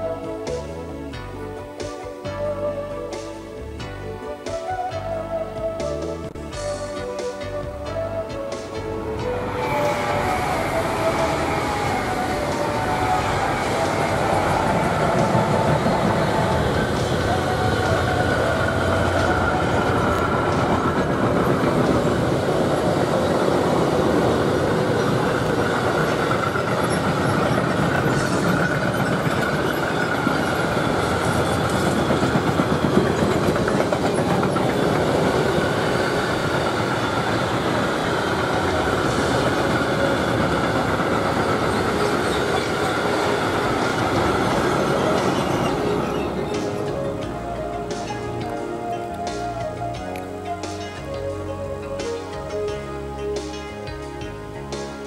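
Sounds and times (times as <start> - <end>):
freight train rolling past: 0.0 - 55.0
wheels clattering on rail: 8.7 - 55.0.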